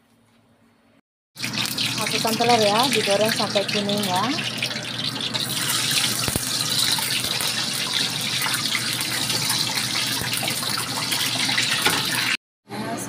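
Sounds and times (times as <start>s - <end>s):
eggs sizzling in hot oil: 1.4s - 12.4s.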